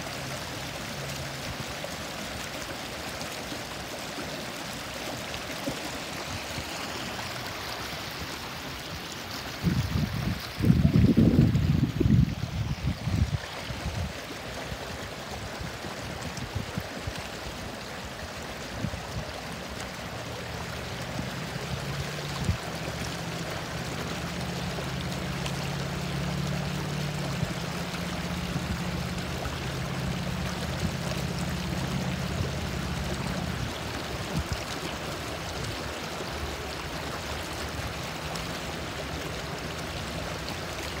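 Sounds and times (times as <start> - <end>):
water rushing over weir: 0.0 - 41.0.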